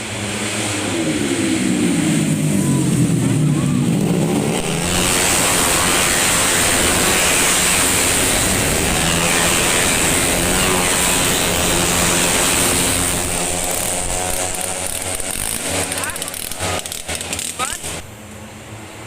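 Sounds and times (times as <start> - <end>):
scooter engines at high revs: 0.0 - 18.2.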